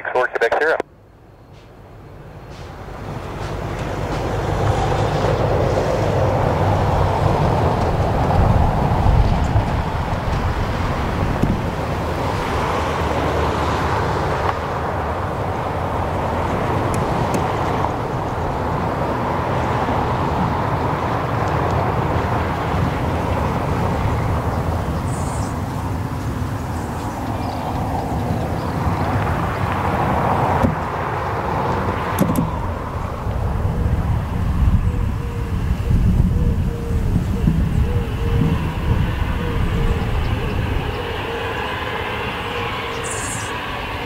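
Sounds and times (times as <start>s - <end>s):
jet engines roaring: 0.0s - 0.8s, 2.5s - 44.0s.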